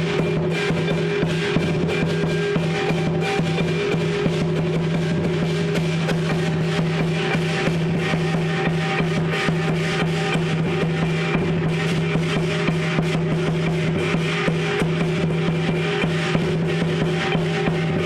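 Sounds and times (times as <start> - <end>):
clashing cymbals: 0.0 - 18.0
large drum beating: 0.0 - 18.0.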